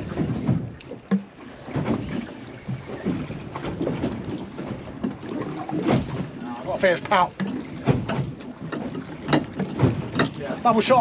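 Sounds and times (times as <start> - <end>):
water slapping boat hull: 0.0 - 11.0
wind buffeting microphone: 0.0 - 11.0.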